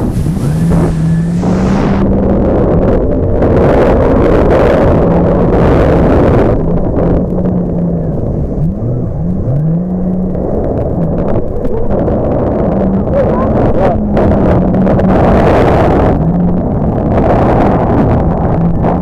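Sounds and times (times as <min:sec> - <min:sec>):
jet ski engine running: 0:00.0 - 0:19.0
wind noise: 0:00.0 - 0:19.0.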